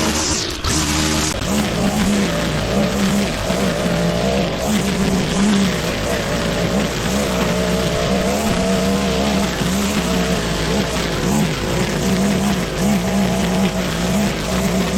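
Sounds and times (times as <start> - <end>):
lawn mower engine cutting grass: 0.0 - 14.9.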